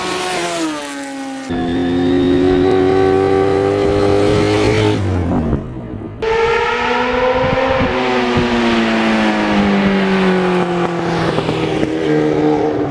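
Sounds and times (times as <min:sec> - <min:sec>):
motorcycle engine passing by: 0:00.0 - 0:05.6, 0:06.3 - 0:12.9.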